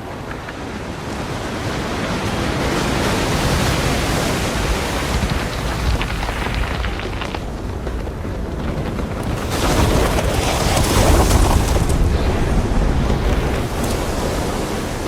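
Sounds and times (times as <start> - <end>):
avalanche roar of sliding snow: 1.4 - 15.0.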